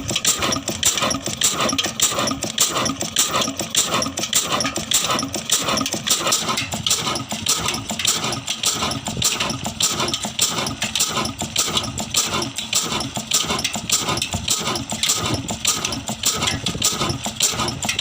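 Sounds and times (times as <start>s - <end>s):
old engine running unevenly: 0.0s - 18.0s.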